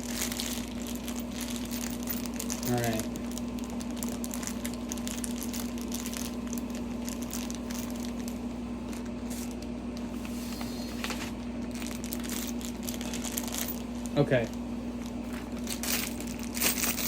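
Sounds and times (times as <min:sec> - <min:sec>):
plastic bags rustling: 0:00.0 - 0:17.0
steady low hum: 0:00.0 - 0:17.0.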